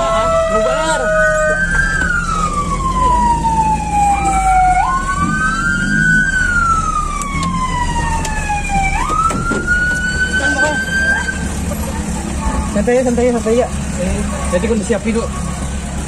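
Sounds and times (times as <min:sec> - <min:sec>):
fire truck siren wailing: 0:00.0 - 0:16.0.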